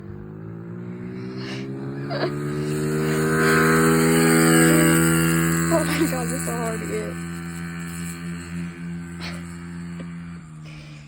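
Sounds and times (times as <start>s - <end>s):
pit bike engine revving high: 0.0s - 11.0s.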